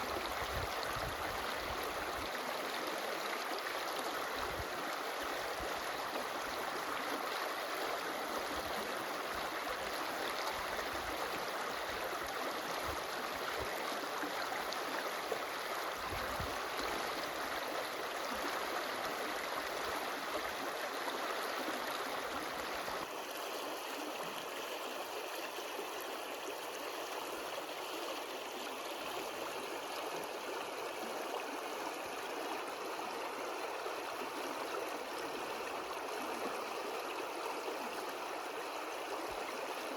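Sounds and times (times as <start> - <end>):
stream rushing and gurgling: 0.0 - 39.9.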